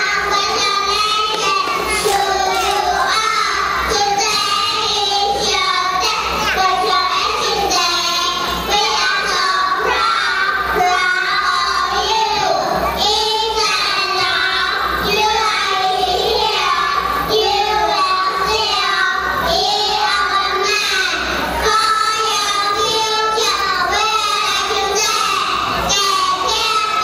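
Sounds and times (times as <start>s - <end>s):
children singing together: 0.0s - 27.0s.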